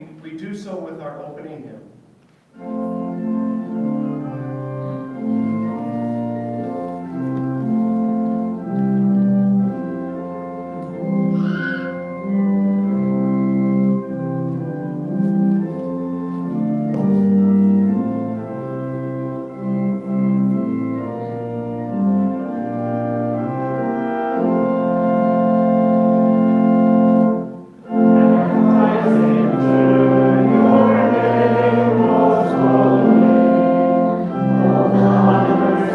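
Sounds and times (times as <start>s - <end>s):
organ playing held chords: 0.0s - 35.9s.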